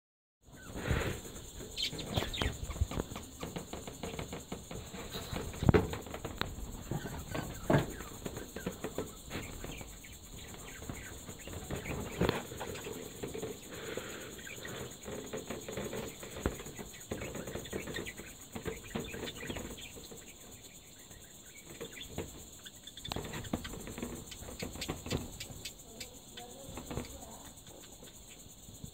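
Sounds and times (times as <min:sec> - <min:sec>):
steady high hiss: 0:00.4 - 0:28.9.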